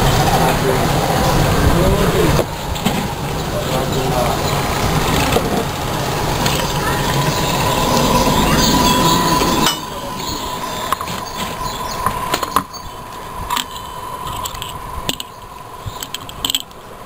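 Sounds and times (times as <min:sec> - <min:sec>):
loud rumbling noise: 0:00.0 - 0:17.0
thin steady whine: 0:00.0 - 0:17.0.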